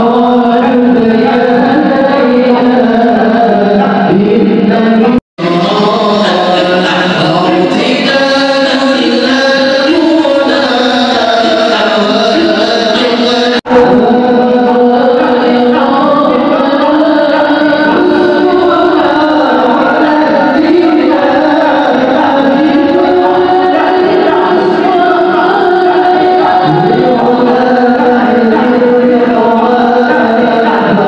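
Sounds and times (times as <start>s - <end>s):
group singing a chant: 0.0s - 31.0s.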